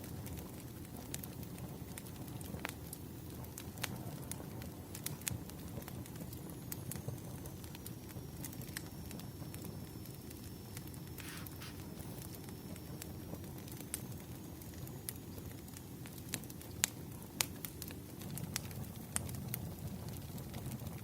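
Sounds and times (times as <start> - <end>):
firewood crackles and pops: 0.0 - 21.0
low rumble of flame: 0.0 - 21.0.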